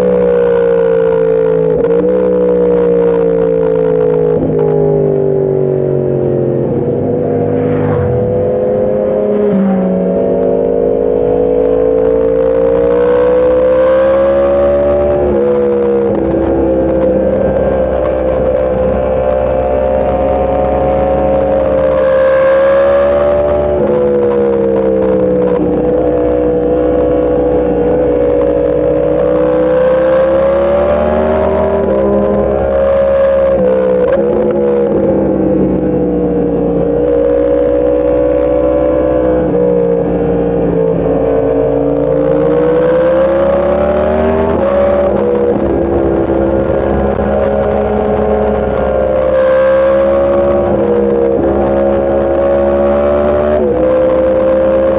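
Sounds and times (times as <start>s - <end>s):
motorcycle engine at high revs: 0.0s - 54.9s.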